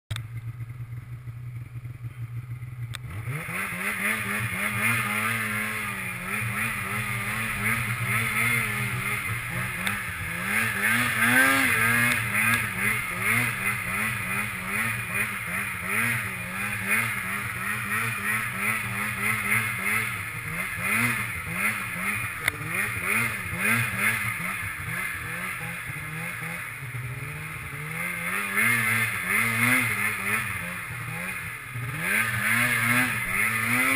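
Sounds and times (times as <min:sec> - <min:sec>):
snowmobile engine revving: 0:02.9 - 0:33.9.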